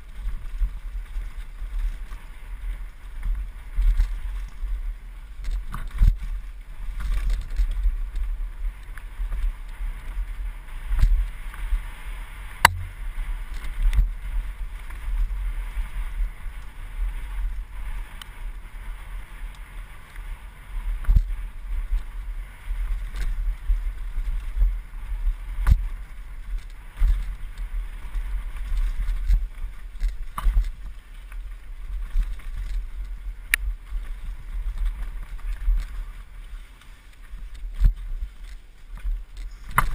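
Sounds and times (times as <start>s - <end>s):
bike knocking and rattling: 0.0s - 11.6s, 12.6s - 18.3s, 20.9s - 36.3s, 37.1s - 39.9s
bike tyres rumbling on dirt: 0.0s - 39.9s
wind on microphone: 0.0s - 39.9s.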